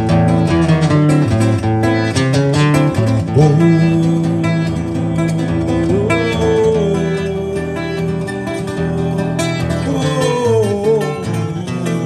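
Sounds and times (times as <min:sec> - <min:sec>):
guitar picking a melody: 0:00.0 - 0:12.0.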